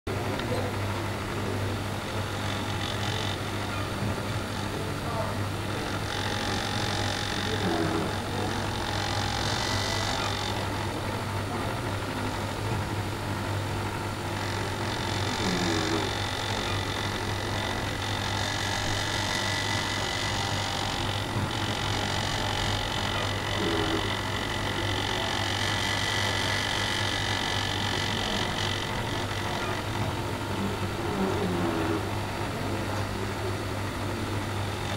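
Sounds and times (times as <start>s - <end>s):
toy train motor humming and whining: 0.6s - 34.9s.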